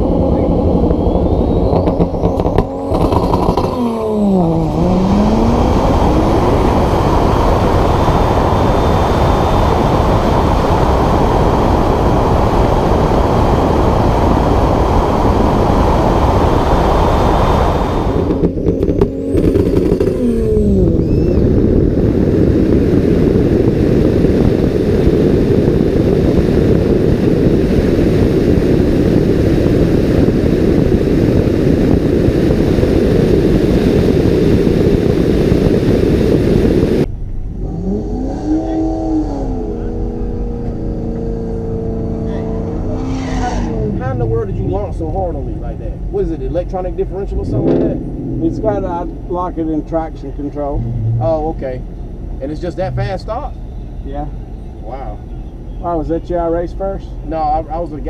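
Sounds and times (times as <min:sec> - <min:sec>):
engine note sweeping: 0:00.0 - 0:58.0
wind and road rush: 0:00.0 - 0:58.0.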